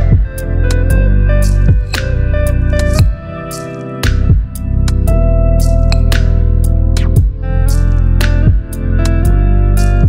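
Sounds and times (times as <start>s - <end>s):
low bass: 0.0s - 10.0s
plucked guitar-like instrumental music: 0.0s - 10.0s.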